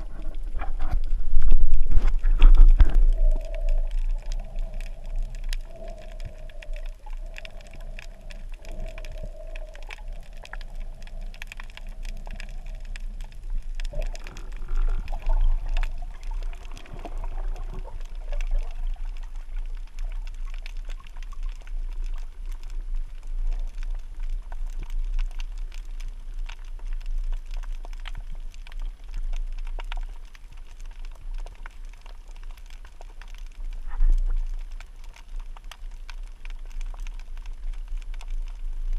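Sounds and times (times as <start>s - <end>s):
dense crackle of small clicks: 0.0s - 38.9s
steady low underwater rumble: 0.0s - 38.9s.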